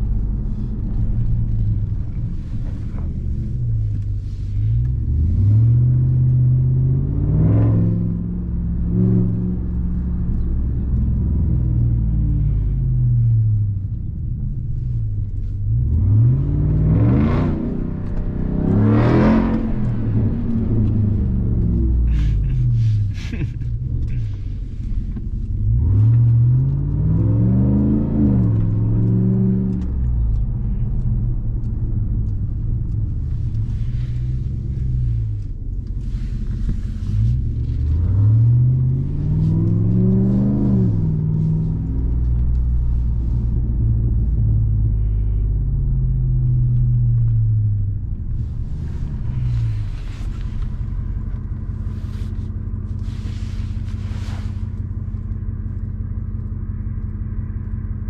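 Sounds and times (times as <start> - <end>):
truck engine accelerating: 0.0 - 58.0.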